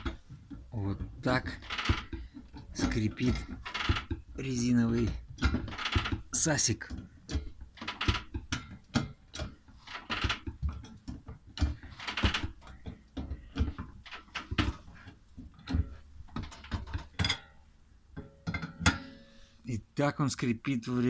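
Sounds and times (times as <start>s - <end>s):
rubber bushings squeaking: 0.0s - 17.4s.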